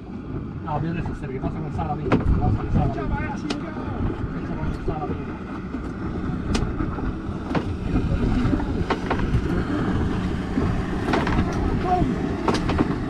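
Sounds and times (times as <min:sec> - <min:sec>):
water noise: 0:00.0 - 0:13.0
wind buffeting microphone: 0:00.0 - 0:13.0.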